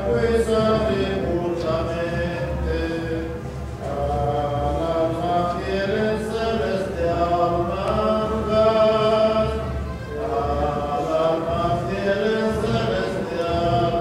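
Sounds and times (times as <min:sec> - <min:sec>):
voices singing a hymn: 0:00.0 - 0:14.0.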